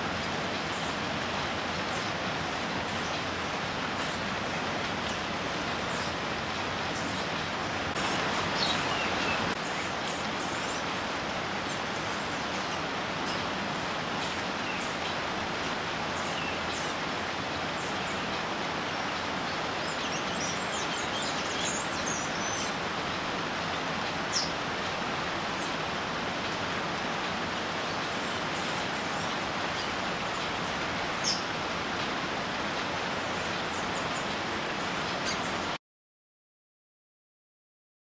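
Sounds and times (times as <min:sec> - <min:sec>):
outdoor ambience hiss: 0:00.0 - 0:35.8
small birds chirping: 0:00.2 - 0:35.8.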